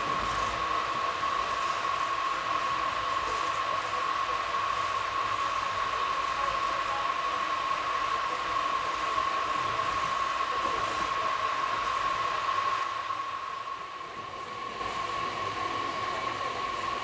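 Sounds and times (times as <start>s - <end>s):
train running: 0.0s - 17.0s.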